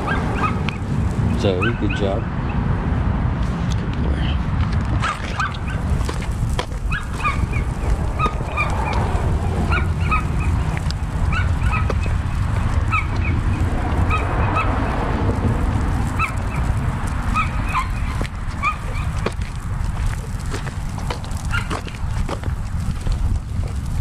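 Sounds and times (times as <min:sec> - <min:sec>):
birds calling: 0:00.0 - 0:02.6, 0:05.0 - 0:22.6
steady low rumble: 0:00.0 - 0:24.0.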